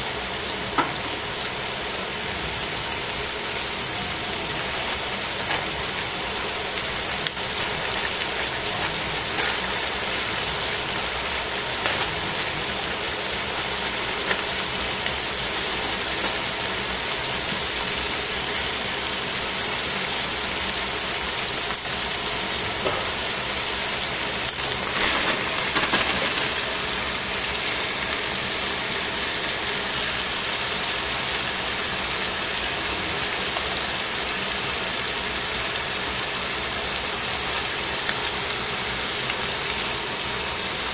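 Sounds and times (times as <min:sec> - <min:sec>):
chicken sizzling in oil: 0:00.0 - 0:40.9.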